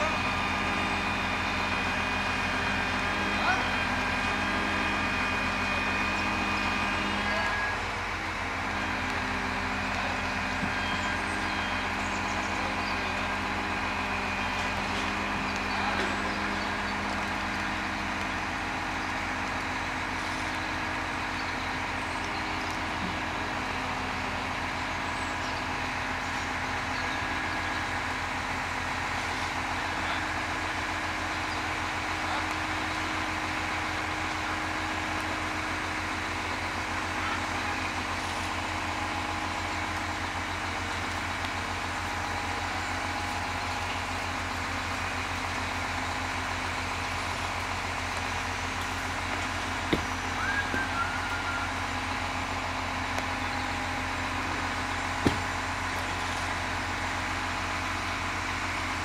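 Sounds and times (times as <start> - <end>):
crane diesel engine running: 0.0 - 59.0.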